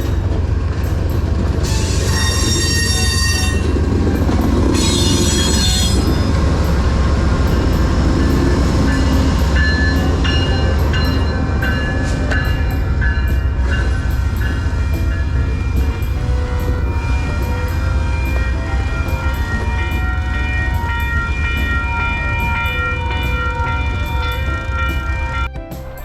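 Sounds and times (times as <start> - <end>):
train rumbling past: 0.0 - 26.0
train wheels squealing: 0.9 - 25.5.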